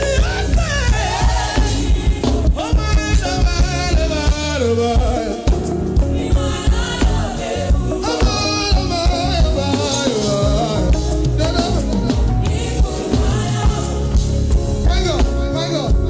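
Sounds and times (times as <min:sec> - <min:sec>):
person singing: 0:00.0 - 0:13.9
drum and bass beat: 0:00.0 - 0:16.0.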